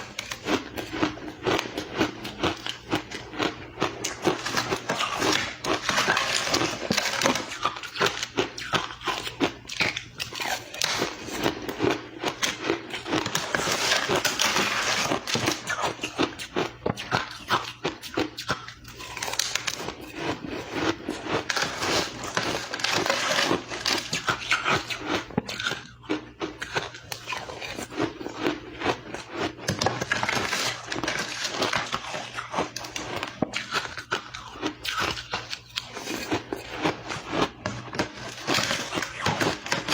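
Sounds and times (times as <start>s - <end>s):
chewing crushed ice: 0.0s - 39.9s.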